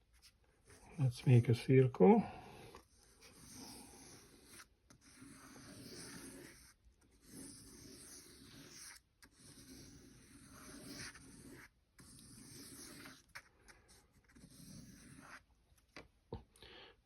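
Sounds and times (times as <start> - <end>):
pencil scratching paper: 0.0 - 1.9, 2.5 - 15.5.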